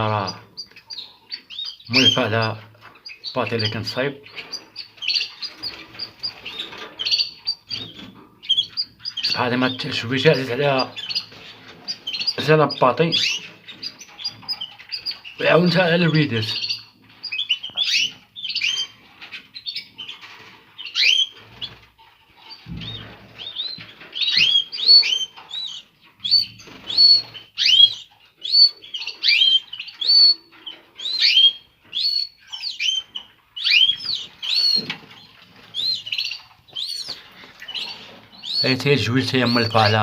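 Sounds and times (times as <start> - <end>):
canaries chirping: 0.0 - 40.0.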